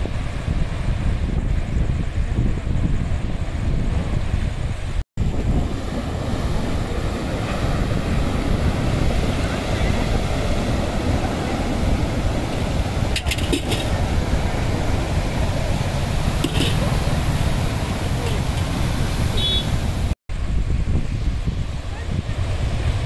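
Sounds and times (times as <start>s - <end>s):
waves breaking on rocky shore: 0.0s - 20.2s, 21.0s - 23.0s
wind buffeting microphone: 0.0s - 23.0s.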